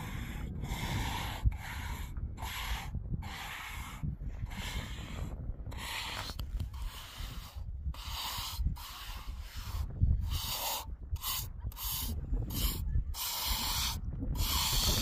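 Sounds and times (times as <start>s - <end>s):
trowel scraping wet concrete: 0.0s - 15.0s.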